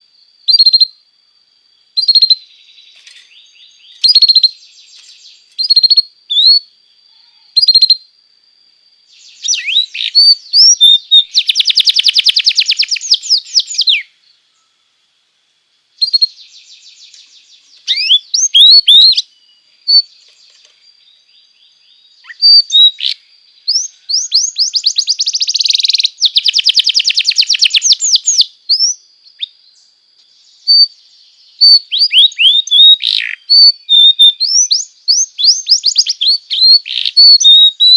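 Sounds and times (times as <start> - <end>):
canary singing: 2.0 - 6.7, 7.3 - 8.1, 9.1 - 14.2, 16.0 - 29.6, 30.4 - 37.9.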